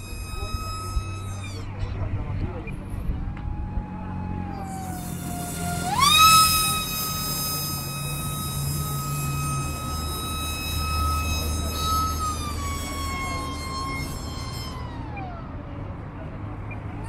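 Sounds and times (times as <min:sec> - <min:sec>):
electric ducted fan whining: 0:00.0 - 0:17.0.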